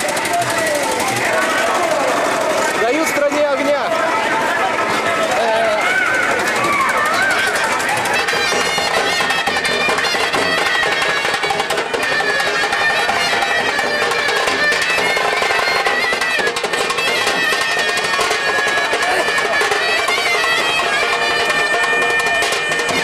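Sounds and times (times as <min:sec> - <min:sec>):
drum beats: 0:00.0 - 0:23.0
reed pipe melody: 0:00.0 - 0:23.0.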